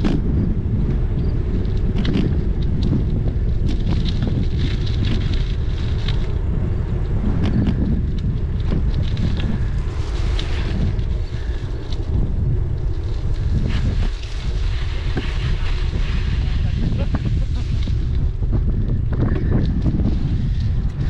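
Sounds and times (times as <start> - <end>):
bicycle clicks and rattles: 0.0 - 21.0
wind buffeting microphone: 0.0 - 21.0.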